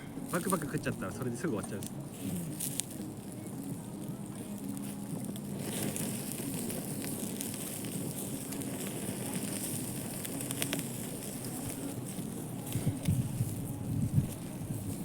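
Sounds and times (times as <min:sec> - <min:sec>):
charcoal fire crackling and popping: 0:00.0 - 0:15.0
steady hiss: 0:00.0 - 0:15.0.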